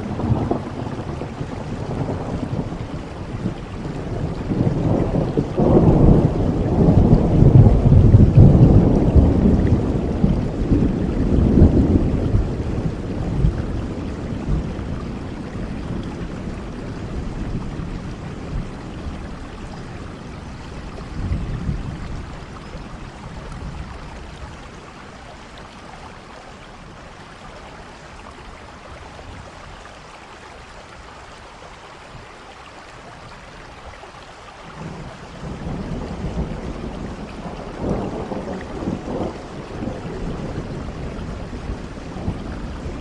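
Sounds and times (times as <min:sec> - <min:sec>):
low thunder rumbles: 0:00.0 - 0:27.1, 0:34.8 - 0:43.0
steady rain: 0:00.0 - 0:43.0.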